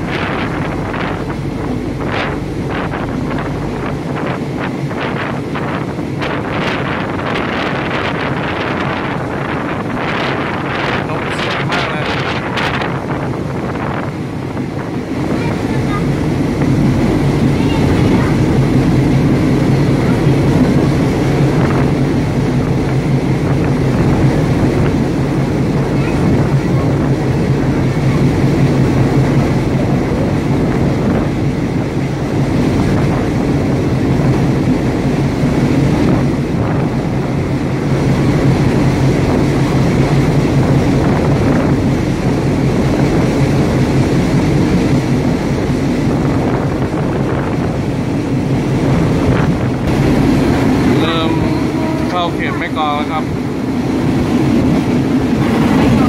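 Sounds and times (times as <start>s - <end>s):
diesel train running: 0.0s - 56.0s
wind on microphone: 0.0s - 56.0s.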